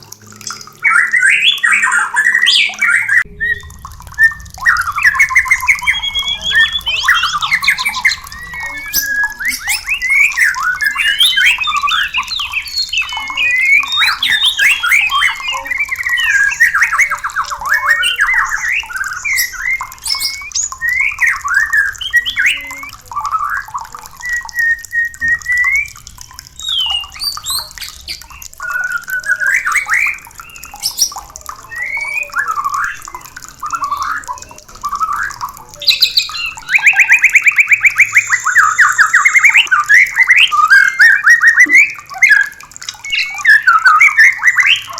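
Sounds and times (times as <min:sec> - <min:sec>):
rapid rattling bird call: 0:00.0 - 0:44.9
bird singing whistles and trills: 0:00.4 - 0:44.9.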